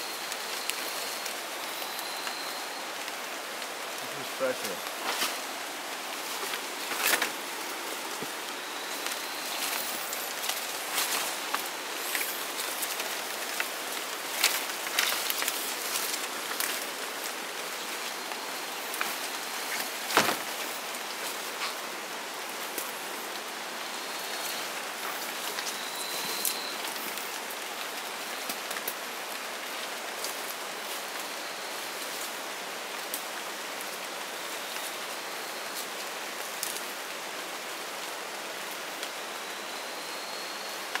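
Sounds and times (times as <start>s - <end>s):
leaves and twigs crackling: 0.0s - 41.0s
steady hiss of wet jungle: 0.0s - 41.0s.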